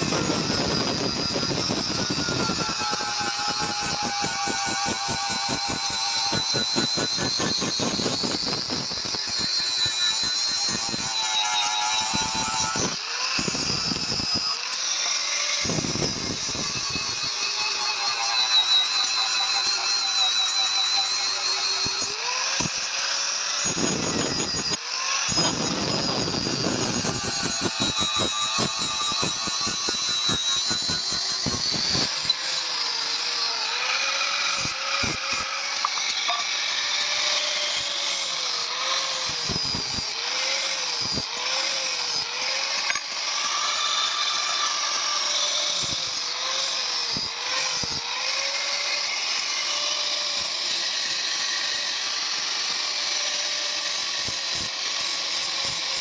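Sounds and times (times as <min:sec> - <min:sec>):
disc grinding steel: 0:00.0 - 0:48.3
angle grinder motor whine: 0:00.0 - 0:56.0.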